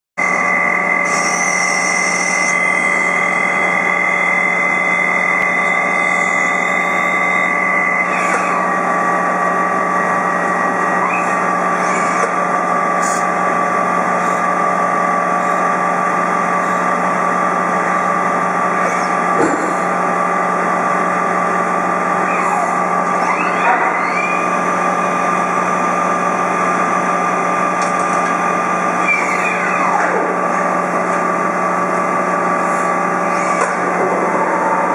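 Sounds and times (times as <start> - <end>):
machine humming: 0.2 - 34.9.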